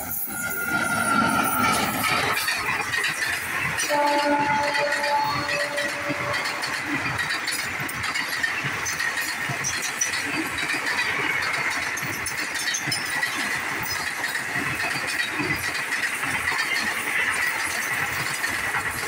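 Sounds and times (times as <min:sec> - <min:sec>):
train wheels rushing on rails: 0:00.0 - 0:19.0.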